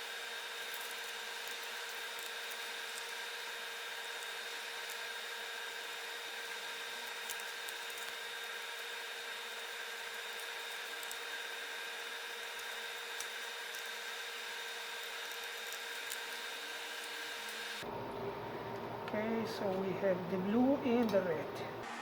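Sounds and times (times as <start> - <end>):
small fan whirring: 0.0 - 22.0.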